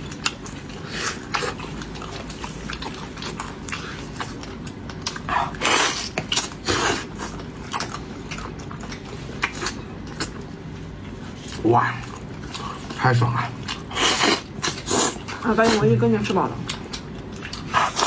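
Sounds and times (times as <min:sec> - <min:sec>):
person chewing ribs: 0:00.0 - 0:18.0.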